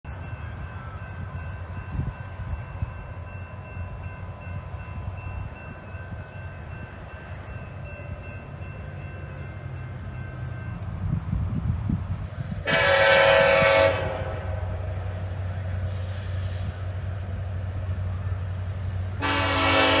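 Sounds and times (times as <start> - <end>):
distant diesel locomotive rumble: 0.0 - 20.0.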